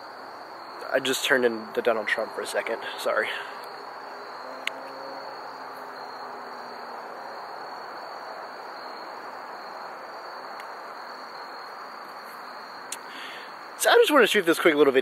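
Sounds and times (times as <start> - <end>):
high insect trill: 0.0 - 15.0
even hiss: 0.8 - 15.0.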